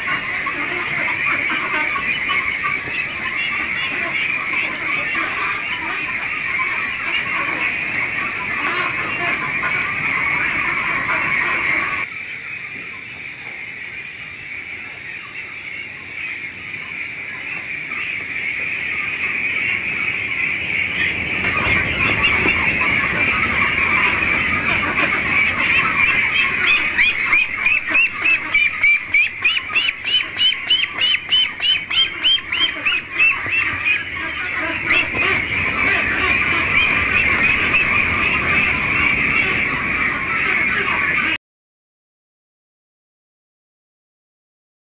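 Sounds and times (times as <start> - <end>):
flock of ducks quacking: 0.0 - 41.4.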